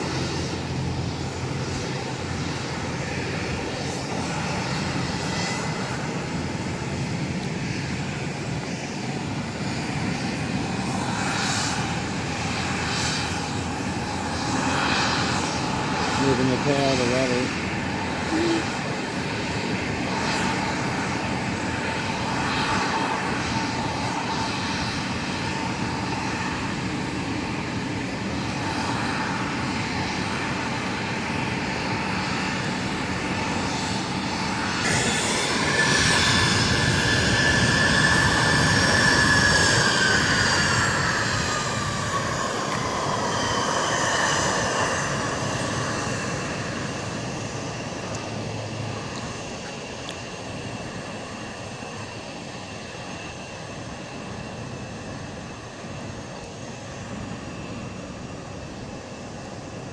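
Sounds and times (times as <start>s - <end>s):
jet engines rumbling with high whine: 0.0s - 59.9s.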